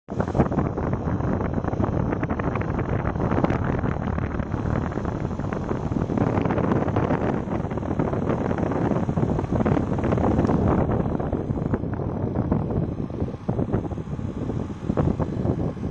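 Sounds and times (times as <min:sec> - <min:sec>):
air conditioner rushing noise: 0:00.1 - 0:15.9.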